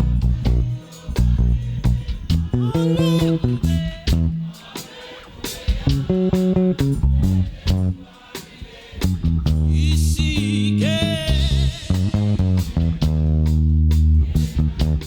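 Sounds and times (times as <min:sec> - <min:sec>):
bass guitar: 0:00.0 - 0:04.6, 0:05.7 - 0:08.1, 0:08.9 - 0:15.0
guitar: 0:00.0 - 0:08.2, 0:08.8 - 0:15.0
drums: 0:00.0 - 0:15.0.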